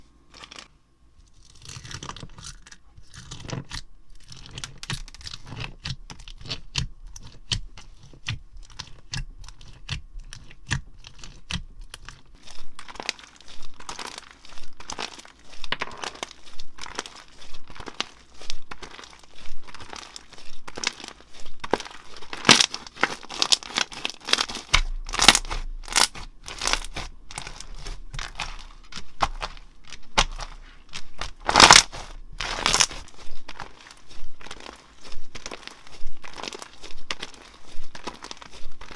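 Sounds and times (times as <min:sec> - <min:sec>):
slime squeezed with crackling pops: 0:03.3 - 0:38.9.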